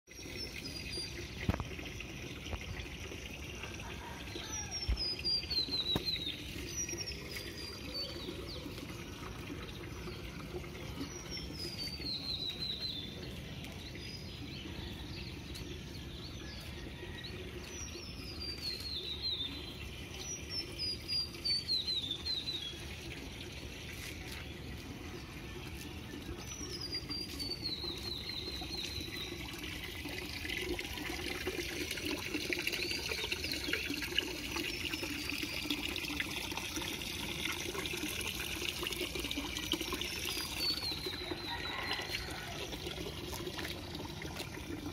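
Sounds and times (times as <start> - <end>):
steady outdoor hiss: 0.2 - 44.9
songbird singing: 2.4 - 43.6.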